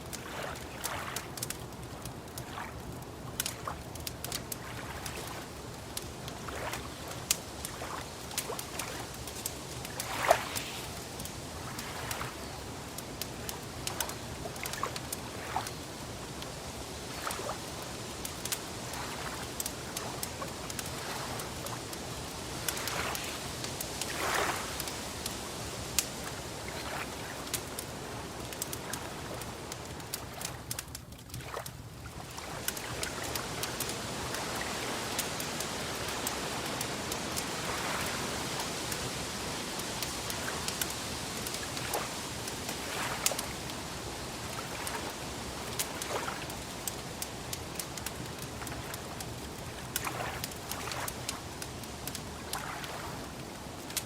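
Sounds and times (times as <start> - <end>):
steady water sound: 0.0 - 54.0
wood fire crackling and popping: 0.0 - 54.0.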